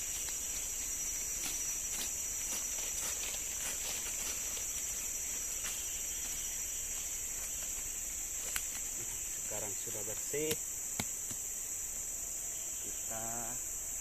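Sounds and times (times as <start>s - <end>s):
rustling and snapping undergrowth: 0.0s - 11.5s
insect chorus drone: 0.0s - 14.0s.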